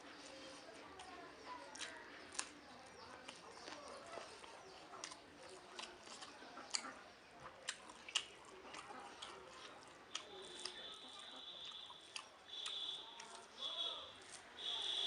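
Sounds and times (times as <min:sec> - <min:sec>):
wet chewing and mouth smacks: 0:00.1 - 0:14.8.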